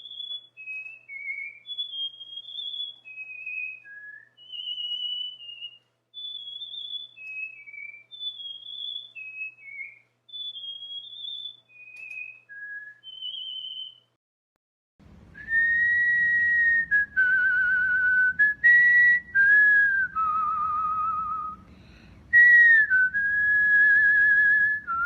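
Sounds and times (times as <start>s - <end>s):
cockatiel whistling: 0.0s - 14.1s, 15.4s - 25.0s.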